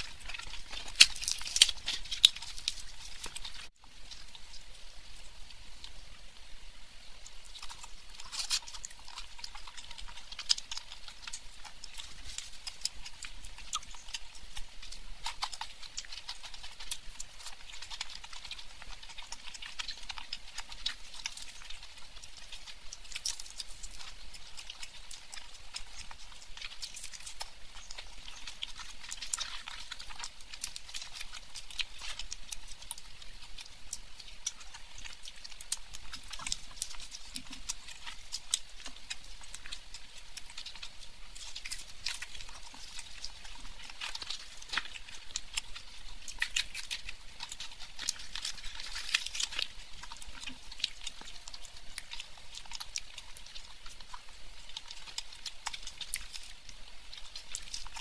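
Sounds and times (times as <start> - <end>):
person chewing and smacking: 0.0 - 6.2, 7.2 - 58.0.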